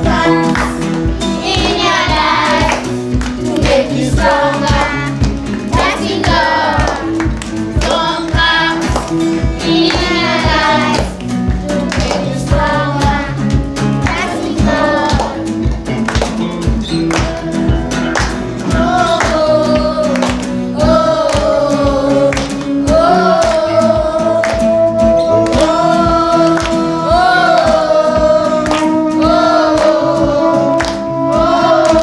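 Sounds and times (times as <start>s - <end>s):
group singing gospel: 0.0s - 15.8s, 16.8s - 32.0s.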